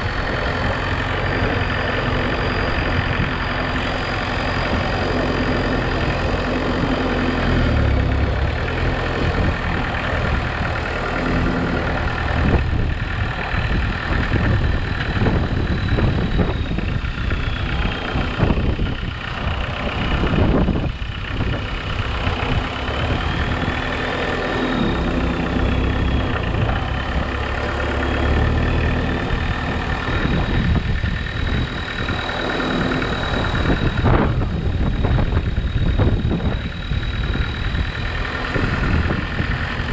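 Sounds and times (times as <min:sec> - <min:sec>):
high whine: 0:00.0 - 0:39.9
tractor engine running: 0:00.0 - 0:39.9.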